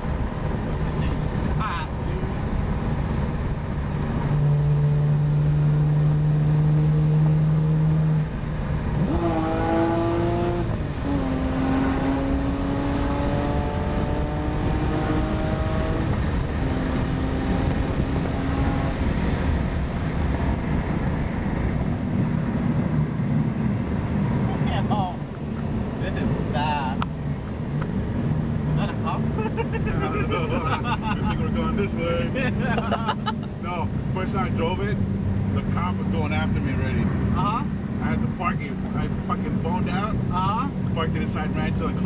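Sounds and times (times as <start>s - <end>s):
car engine accelerating: 0.0s - 42.0s
wind and road rush: 0.0s - 42.0s.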